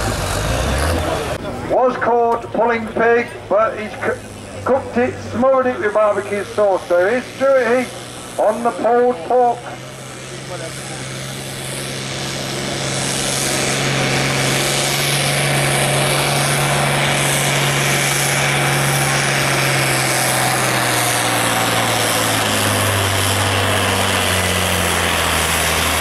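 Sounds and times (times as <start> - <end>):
tractor engine running flat out: 0.0 - 26.0.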